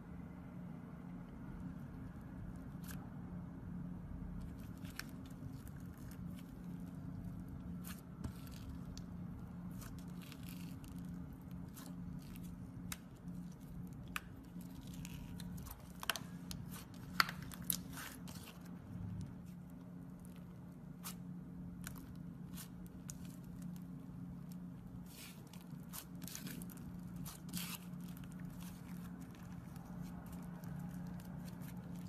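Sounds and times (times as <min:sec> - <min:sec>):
steady low hum: 0:00.0 - 0:32.0
slime squishing with clicks and crackles: 0:00.8 - 0:32.0.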